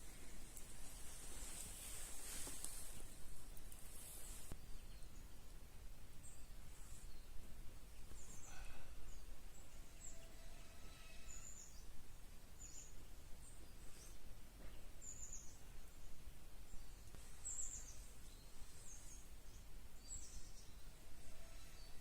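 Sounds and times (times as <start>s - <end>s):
faint background hiss: 0.0s - 22.0s
small birds chirping: 0.0s - 22.0s.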